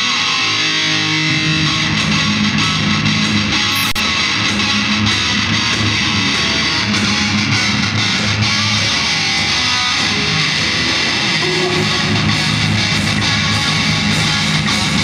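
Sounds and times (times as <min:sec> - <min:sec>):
distorted electric guitars: 0:00.0 - 0:15.0
heavy metal band playing: 0:00.0 - 0:15.0.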